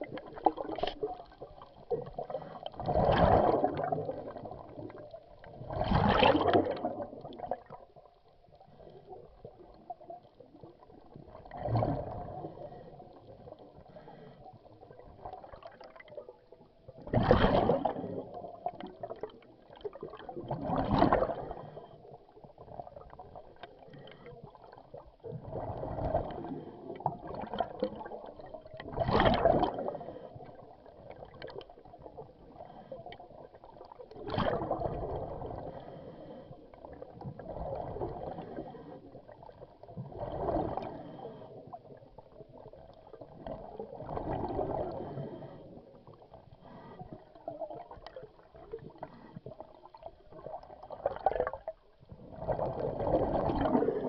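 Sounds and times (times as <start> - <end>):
exhaled bubbles gurgling: 0.0 - 54.0.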